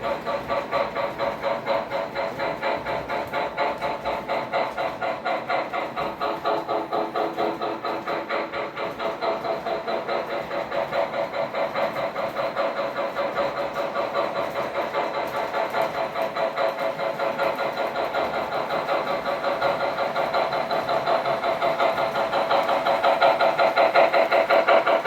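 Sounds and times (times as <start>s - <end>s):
model steam locomotive chuffing: 0.0s - 25.0s.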